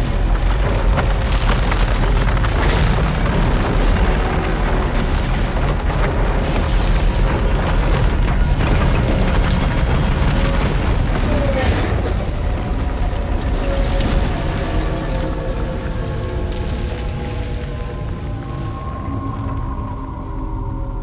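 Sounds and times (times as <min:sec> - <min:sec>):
deep rumbling: 0:00.0 - 0:21.0
dramatic score music: 0:00.0 - 0:21.0.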